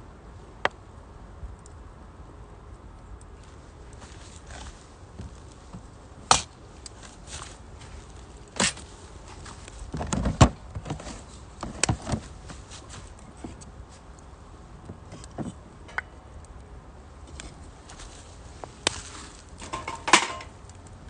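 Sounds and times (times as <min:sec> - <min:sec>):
wood fire crackling: 0:02.6 - 0:10.0, 0:11.2 - 0:21.0.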